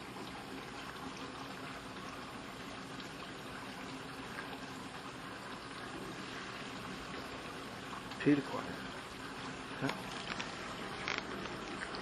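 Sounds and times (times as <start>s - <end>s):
dishwasher motor humming: 0.0s - 12.0s
water spraying inside dishwasher: 0.0s - 12.0s.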